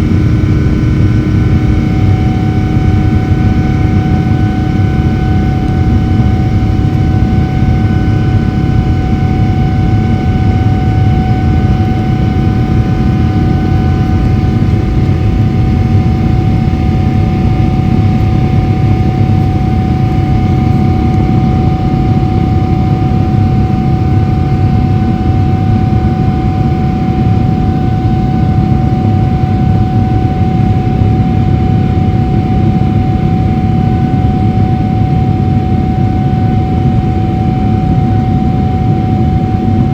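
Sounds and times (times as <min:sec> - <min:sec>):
engine whine: 0:00.0 - 0:39.9
jet engines rumbling in cabin: 0:00.0 - 0:39.9.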